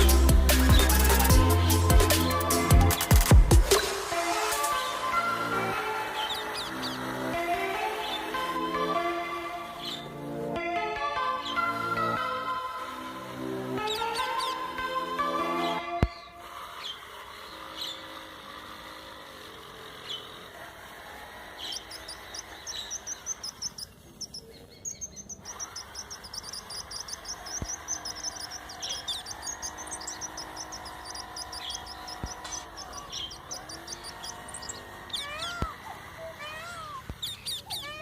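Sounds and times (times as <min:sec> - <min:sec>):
small birds chirping: 0:00.0 - 0:10.4, 0:11.2 - 0:38.0.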